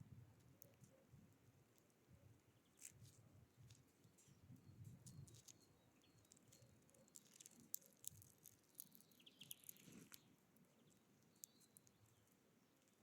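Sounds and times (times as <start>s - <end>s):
birds pecking at a feeder: 2.6s - 13.0s.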